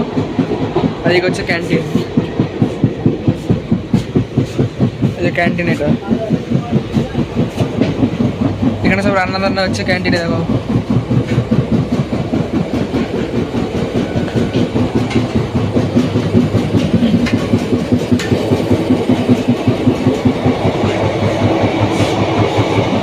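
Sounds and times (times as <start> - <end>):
train wheels clickety-clack: 0.0 - 23.0.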